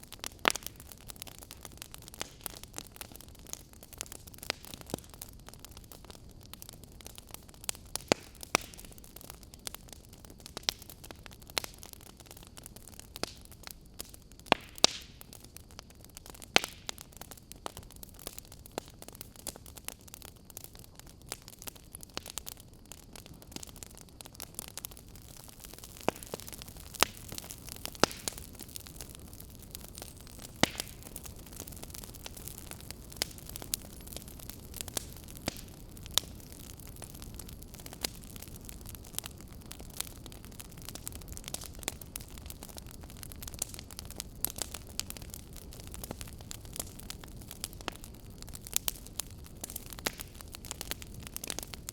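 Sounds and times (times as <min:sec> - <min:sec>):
burning logs crackling and popping: 0:00.0 - 0:51.9
flames rumbling and hissing: 0:00.0 - 0:51.9.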